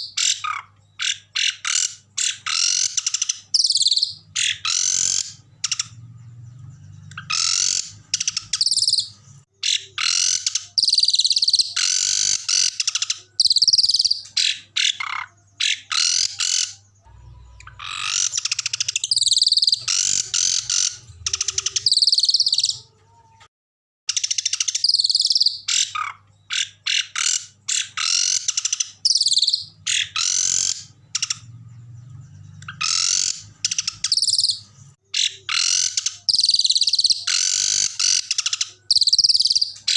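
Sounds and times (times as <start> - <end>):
songbirds trilling and chattering: 0.0 - 23.5, 24.1 - 39.9.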